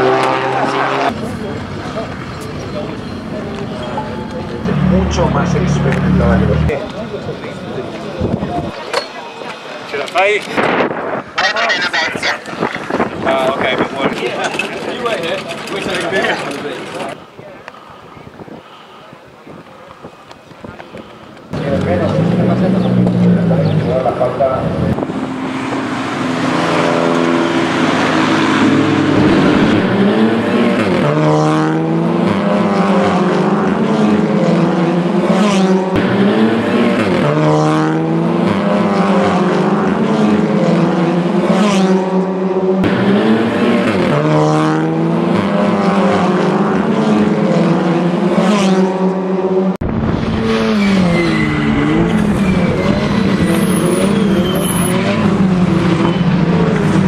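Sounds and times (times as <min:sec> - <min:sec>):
cars passing: 0:00.0 - 0:17.0, 0:20.8 - 0:57.0
racing car engines at full throttle: 0:00.0 - 0:17.8, 0:19.7 - 0:57.0.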